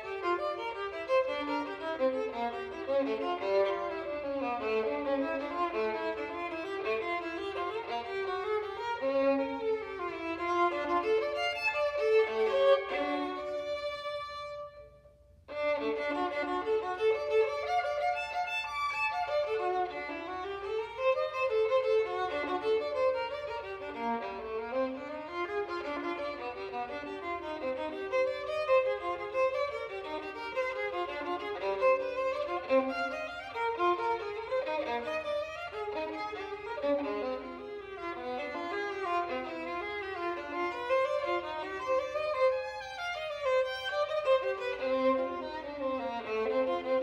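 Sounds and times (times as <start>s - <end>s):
solo violin playing fast runs: 0.0s - 14.9s, 15.5s - 47.0s.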